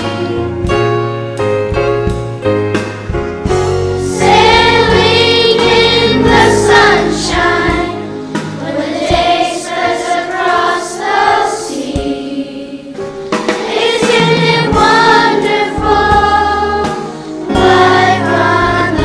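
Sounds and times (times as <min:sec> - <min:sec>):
children's choir singing: 0:00.0 - 0:00.7, 0:04.0 - 0:19.0.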